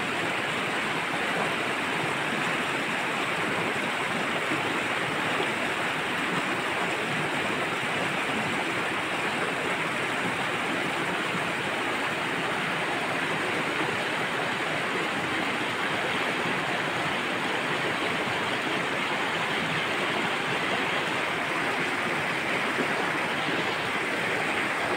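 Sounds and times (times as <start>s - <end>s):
stream water flowing: 0.0s - 24.9s.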